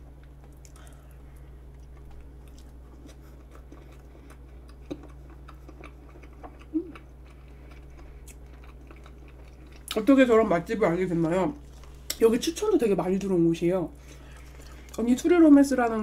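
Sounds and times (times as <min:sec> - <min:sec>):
soft chewing: 0:00.0 - 0:12.2, 0:14.0 - 0:15.3
steady low hum: 0:00.0 - 0:16.0.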